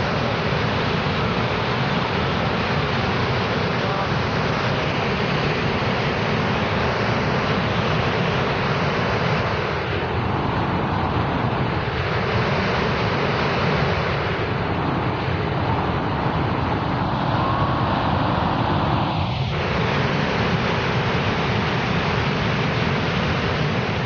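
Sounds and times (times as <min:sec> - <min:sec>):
waterfall rushing: 0:00.0 - 0:09.8, 0:10.5 - 0:24.0.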